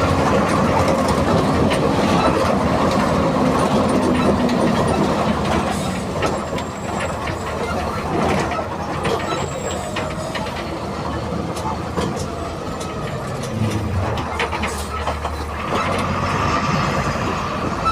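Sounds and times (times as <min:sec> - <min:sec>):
diesel bus engine running: 0:00.0 - 0:17.9.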